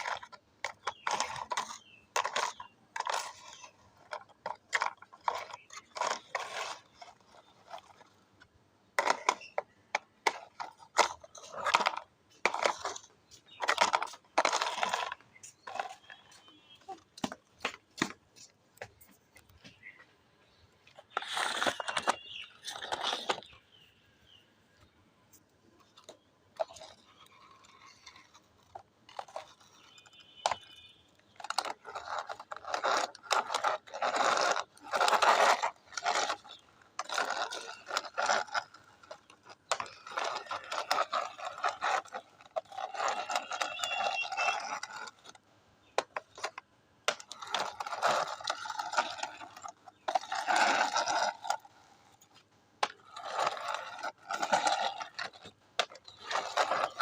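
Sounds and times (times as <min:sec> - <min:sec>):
plastic toy vehicles scraping and rattling: 0:00.0 - 0:57.0.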